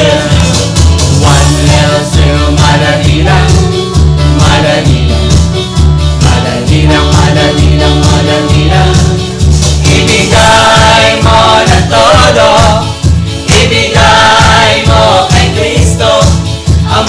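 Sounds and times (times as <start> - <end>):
group of singers: 0.0 - 17.0
live band playing worship song: 0.0 - 17.0.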